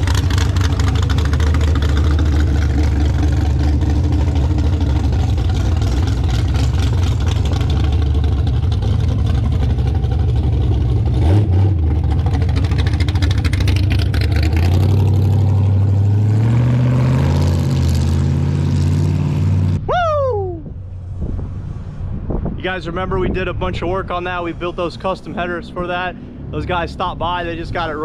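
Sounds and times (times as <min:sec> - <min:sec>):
truck engine and exhaust revving: 0:00.0 - 0:28.0.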